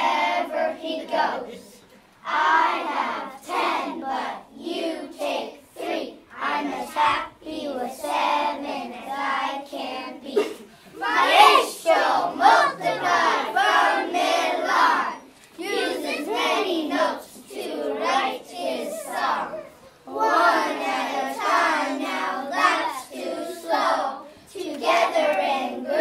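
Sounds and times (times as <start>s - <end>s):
children singing: 0.0s - 26.0s.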